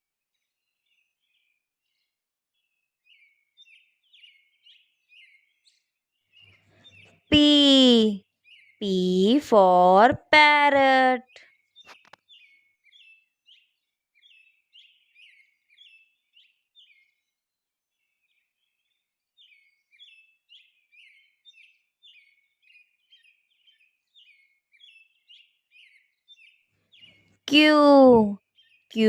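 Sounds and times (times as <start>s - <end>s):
bird chirping: 0.7s - 29.0s.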